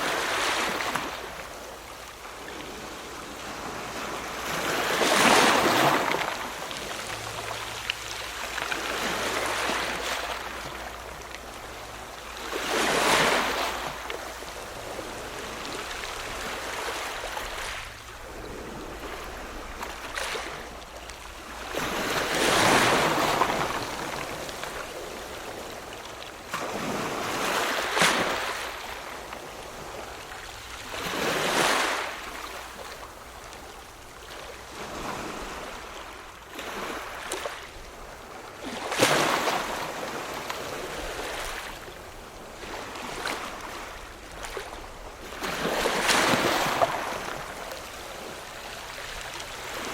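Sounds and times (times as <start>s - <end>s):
ocean waves breaking: 0.0s - 49.9s.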